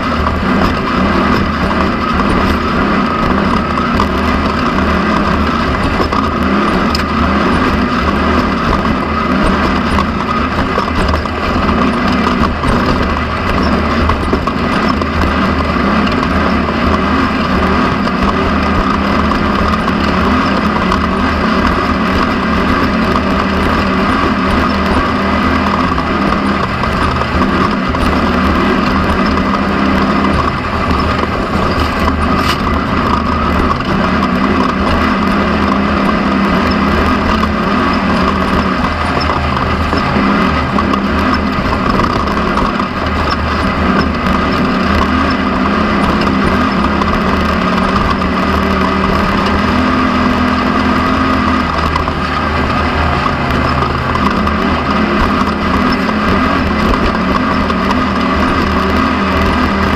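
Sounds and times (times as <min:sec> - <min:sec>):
race car engine at speed: 0:00.0 - 0:59.9.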